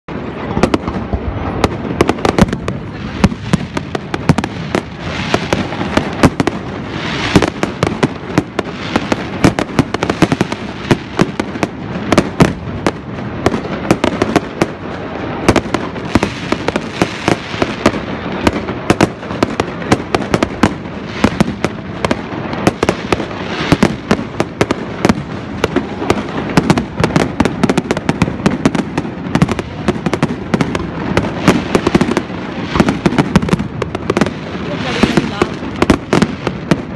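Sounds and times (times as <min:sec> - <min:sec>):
firecrackers crackling: 0:00.1 - 0:36.9
rumble of firework bursts: 0:00.1 - 0:36.9.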